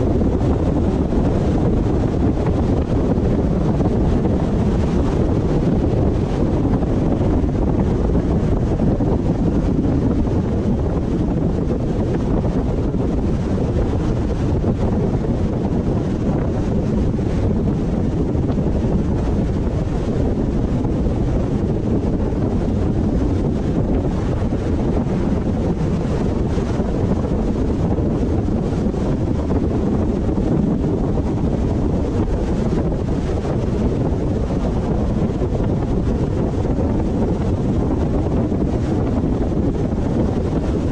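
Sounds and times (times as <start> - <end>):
car road noise rumble: 0.0 - 40.9
wind on microphone: 0.0 - 40.9.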